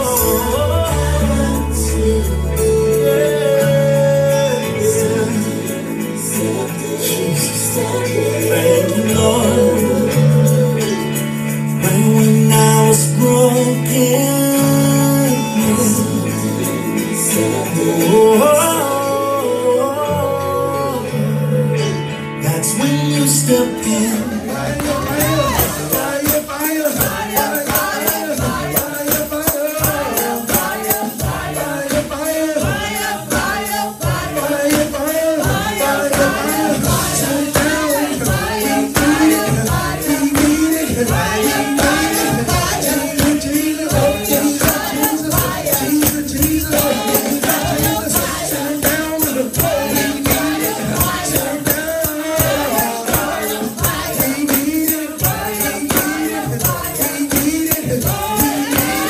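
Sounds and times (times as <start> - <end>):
tambourine shaken on fast beat: 0.0 - 18.8, 24.8 - 59.0
people singing: 0.0 - 59.0.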